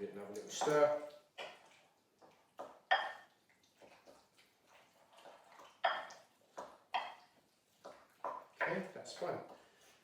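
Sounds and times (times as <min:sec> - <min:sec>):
spoon stirring wet chicken: 0:00.3 - 0:10.0.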